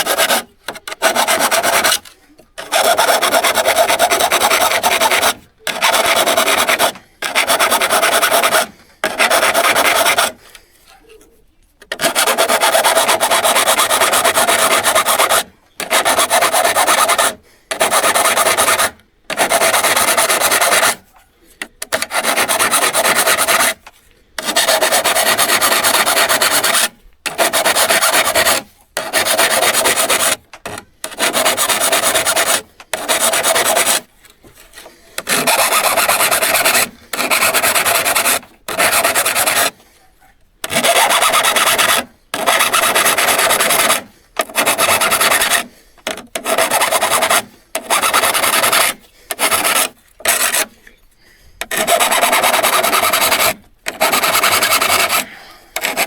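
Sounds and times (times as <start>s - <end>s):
rasping strokes on saw blade: 0.0s - 11.0s, 11.8s - 50.9s, 51.6s - 56.0s.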